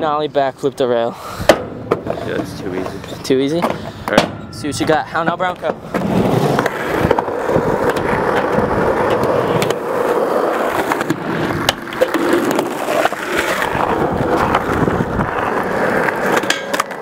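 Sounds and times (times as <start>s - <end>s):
skateboard wheels rolling: 0.0s - 17.0s
skateboard clacks: 1.5s - 4.3s, 5.2s - 17.0s.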